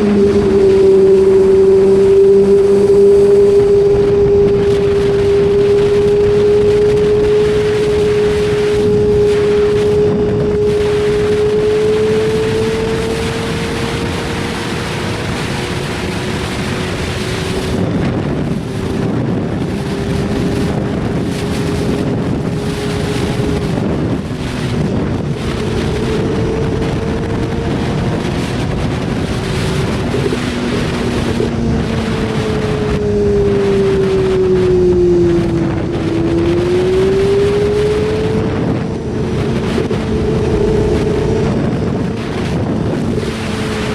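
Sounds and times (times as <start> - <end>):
motorcycle engine running: 0.0 - 43.9
wind noise on microphone: 0.0 - 43.9.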